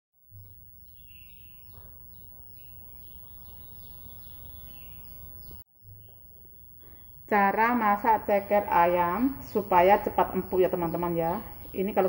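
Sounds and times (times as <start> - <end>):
small birds chirping: 0.3 - 12.0.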